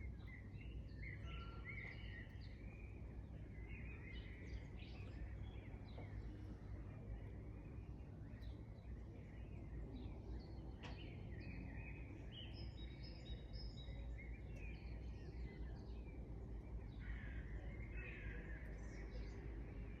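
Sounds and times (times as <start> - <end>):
songbirds singing and chirping: 0.0 - 20.0.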